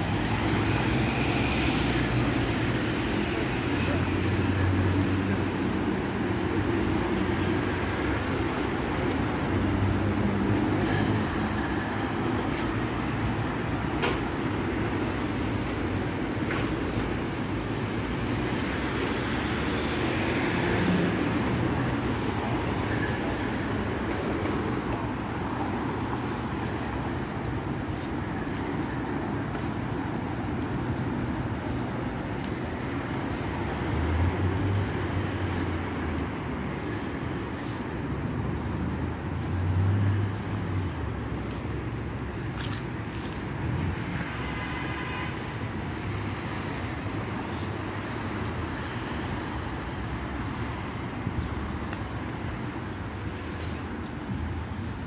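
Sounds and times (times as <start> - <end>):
city road traffic rumble: 0.0 - 55.0.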